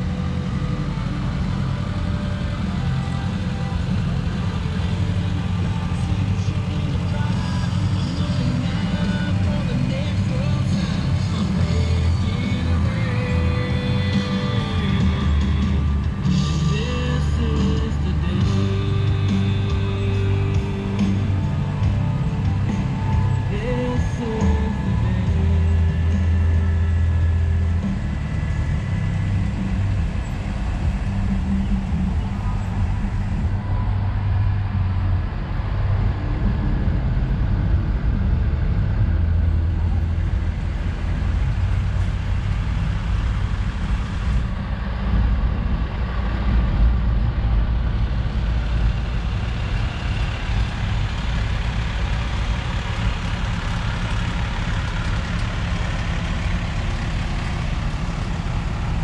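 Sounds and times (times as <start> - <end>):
fire truck engines rumbling: 0.0 - 59.0.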